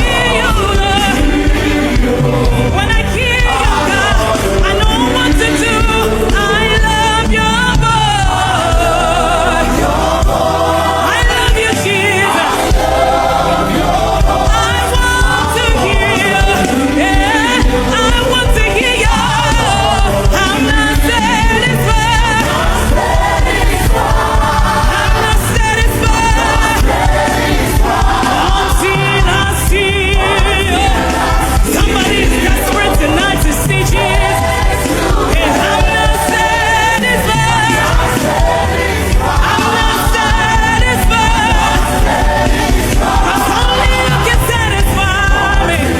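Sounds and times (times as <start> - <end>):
band accompaniment with beat: 0.0 - 45.9
congregation and choir singing: 0.0 - 45.9.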